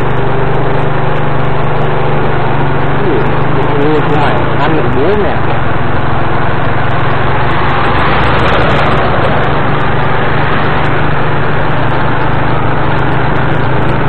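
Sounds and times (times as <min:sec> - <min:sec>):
vehicle engine and road noise: 0:00.0 - 0:14.0
heavy truck passing: 0:01.2 - 0:14.0.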